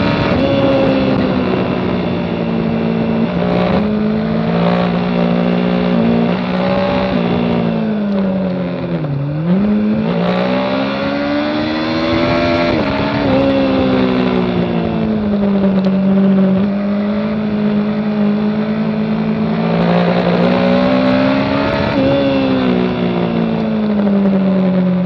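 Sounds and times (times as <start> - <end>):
motorcycle engine at speed: 0.0 - 25.0
wind noise: 0.0 - 25.0.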